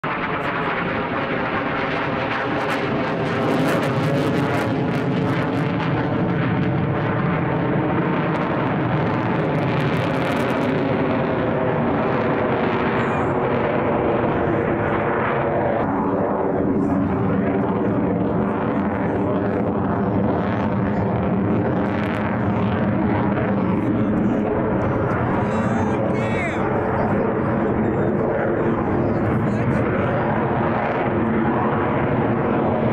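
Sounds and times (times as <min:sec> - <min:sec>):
jet engine noise: 0:00.0 - 0:32.9.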